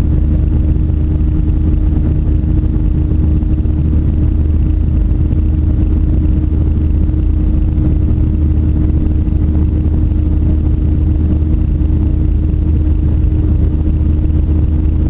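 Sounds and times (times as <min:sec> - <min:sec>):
airliner engines droning in cabin: 0:00.0 - 0:15.0.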